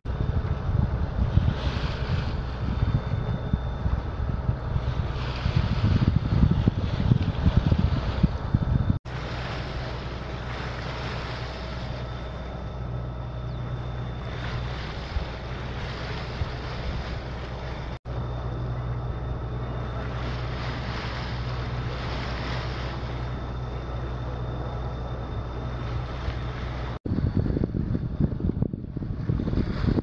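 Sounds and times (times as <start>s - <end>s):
water and wind rushing: 0.0s - 30.0s
diesel engine droning: 0.1s - 30.0s.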